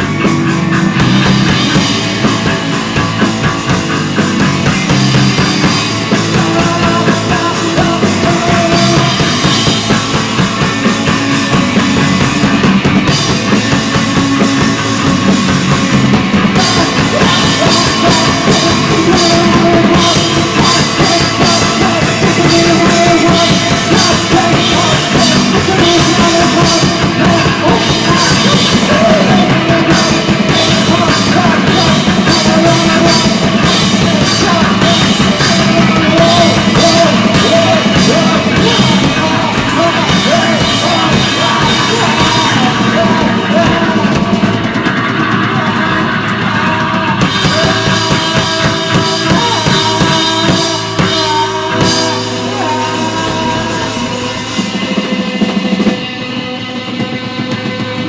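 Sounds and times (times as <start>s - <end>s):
loud rock song with drums: 0.0s - 58.0s.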